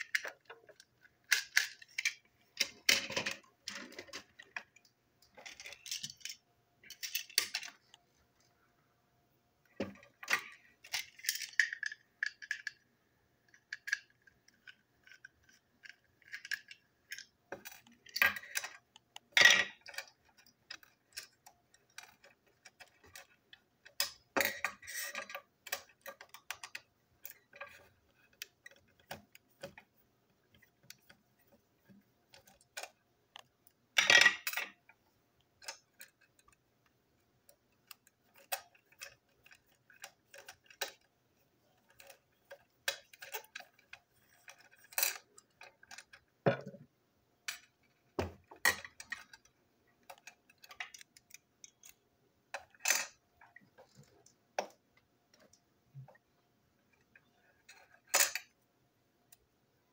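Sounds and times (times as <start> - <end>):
small plastic parts clattering: 0.0 - 8.1, 9.6 - 58.6.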